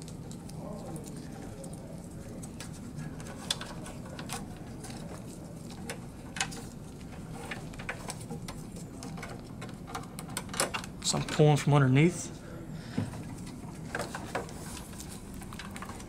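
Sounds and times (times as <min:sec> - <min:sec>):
gloved hands clicking and rustling: 0:00.0 - 0:11.1, 0:13.2 - 0:16.0
faint low hum: 0:00.0 - 0:16.0.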